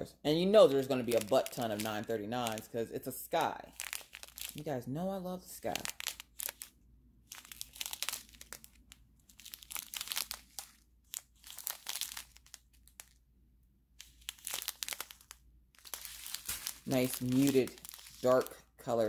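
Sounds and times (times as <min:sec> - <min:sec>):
plastic bags crinkling: 0:00.4 - 0:13.2, 0:14.0 - 0:19.0.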